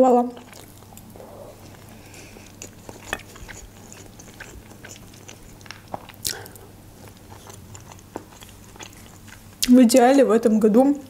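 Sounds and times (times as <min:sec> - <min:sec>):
person chewing food: 0:00.4 - 0:09.8.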